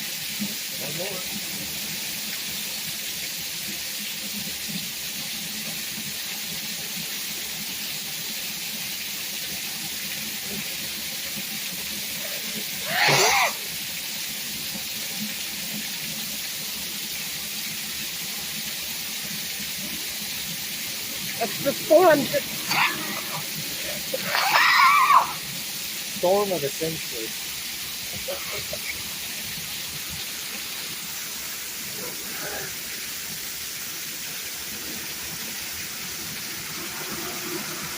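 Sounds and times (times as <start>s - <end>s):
heavy rain hissing: 0.0s - 37.9s.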